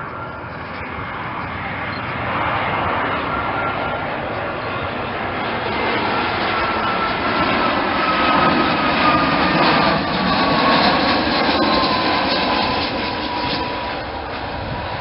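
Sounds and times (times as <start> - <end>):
jet airliner engines roaring: 0.0 - 15.0.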